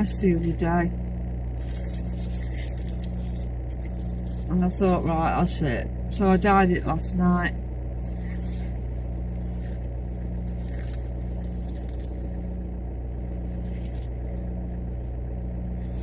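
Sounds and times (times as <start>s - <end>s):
car engine low hum: 0.0s - 16.0s.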